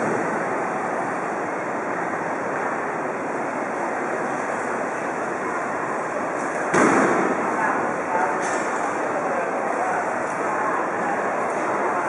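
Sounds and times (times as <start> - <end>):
indistinct crowd babble: 0.0 - 12.0.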